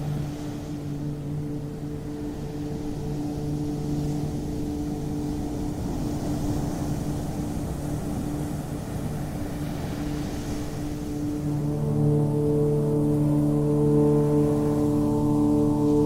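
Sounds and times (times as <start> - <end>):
ambient drone of low tones: 0.0 - 16.0
ocean waves washing ashore: 0.0 - 16.0.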